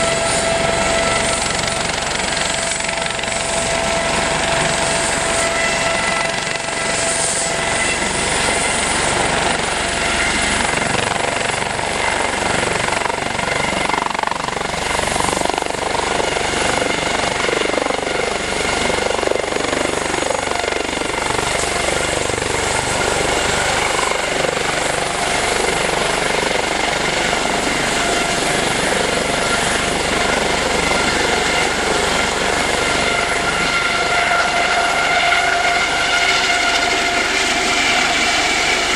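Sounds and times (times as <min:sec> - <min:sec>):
helicopter rotors and turbines: 0:00.0 - 0:38.9.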